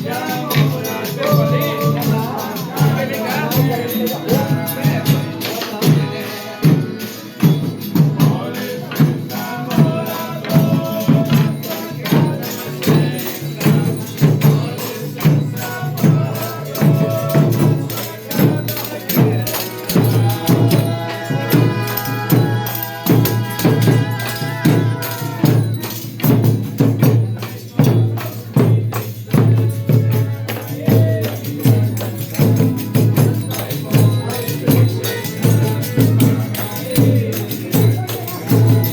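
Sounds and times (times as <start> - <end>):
deep drum beat: 0.0 - 38.9
tambourine jingles: 0.0 - 38.9.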